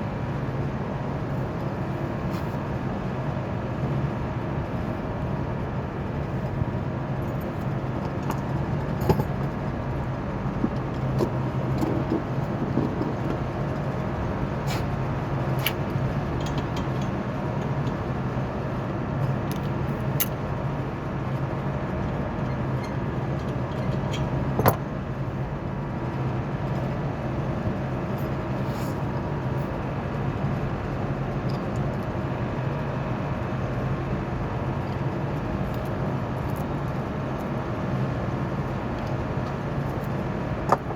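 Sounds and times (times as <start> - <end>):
hvac machinery drone: 0.0 - 40.9.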